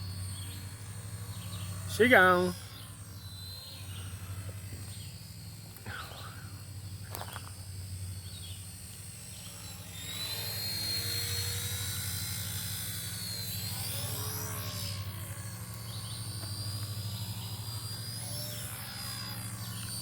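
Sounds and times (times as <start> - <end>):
high motor whine: 0.0 - 20.0
model helicopter rotor hum: 0.0 - 20.0.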